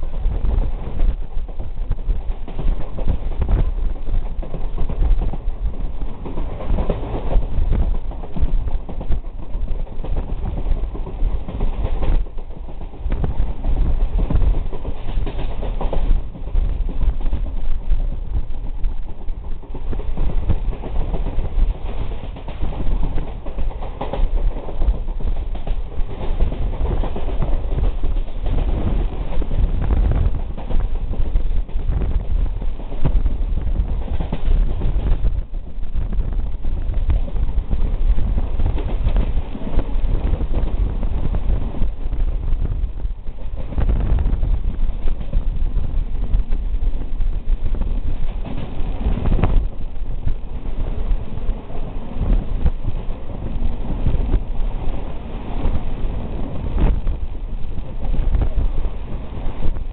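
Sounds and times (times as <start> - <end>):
train rumbling: 0.0 - 59.9
wind on microphone: 0.0 - 59.9.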